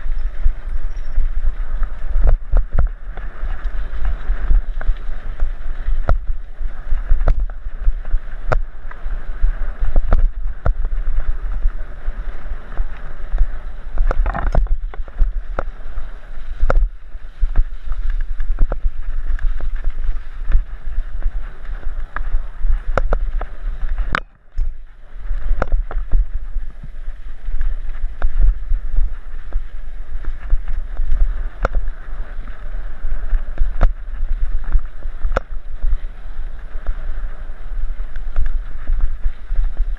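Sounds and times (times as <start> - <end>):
bike tyres rumbling on dirt: 0.0 - 39.9
wind buffeting microphone: 0.0 - 39.9.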